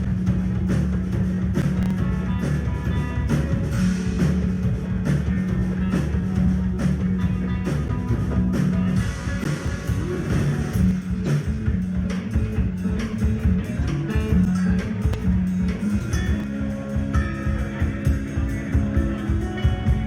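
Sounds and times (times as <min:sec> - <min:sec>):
distorted electric guitar: 0:00.0 - 0:20.0
drum kit beat: 0:00.0 - 0:20.0.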